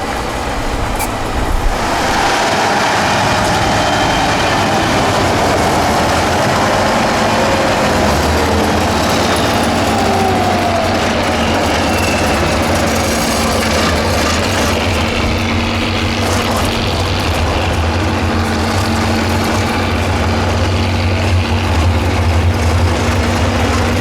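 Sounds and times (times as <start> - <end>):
truck engine working under load: 0.0 - 24.0.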